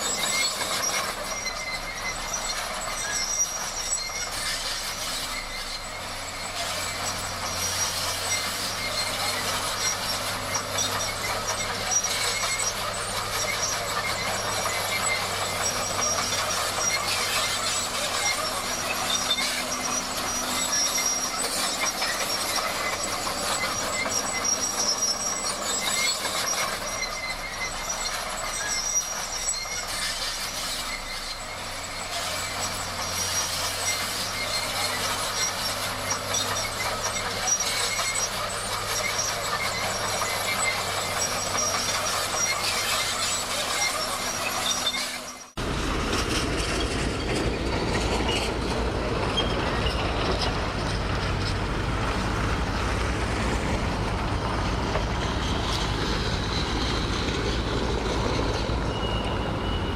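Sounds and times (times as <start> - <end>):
bulldozer engine rumble: 0.0 - 59.9
steel tracks squealing and clanking: 0.0 - 59.9.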